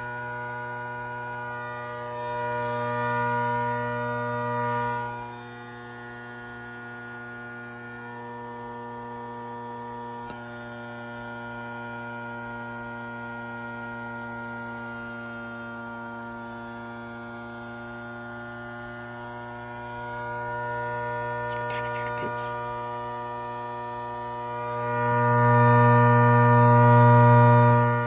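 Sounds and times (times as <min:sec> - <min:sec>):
siren hum with overtones: 0:00.0 - 0:11.7, 0:16.8 - 0:28.0.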